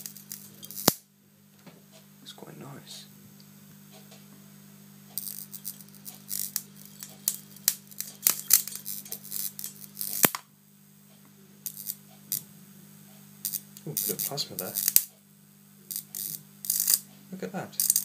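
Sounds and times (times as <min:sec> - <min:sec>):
electric arc crackling: 0:00.0 - 0:01.2, 0:02.6 - 0:11.0, 0:11.6 - 0:18.0
steady low hum: 0:00.0 - 0:18.0.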